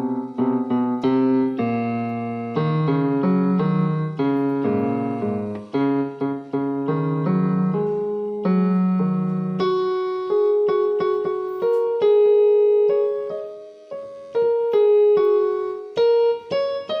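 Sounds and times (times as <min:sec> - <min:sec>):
low piano chord: 0:00.0 - 0:17.0
slow piano melody: 0:00.0 - 0:17.0.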